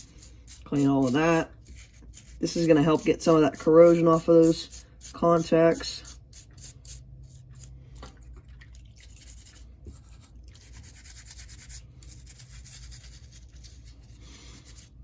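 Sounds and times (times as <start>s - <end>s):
toothbrush scrubbing: 0.0s - 8.1s, 8.8s - 15.0s.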